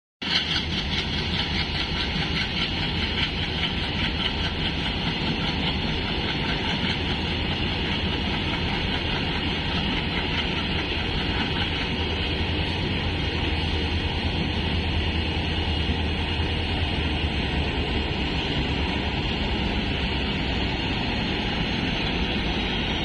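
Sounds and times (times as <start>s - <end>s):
low engine drone: 0.2s - 23.0s
train wheels clattering on rail: 0.2s - 23.0s.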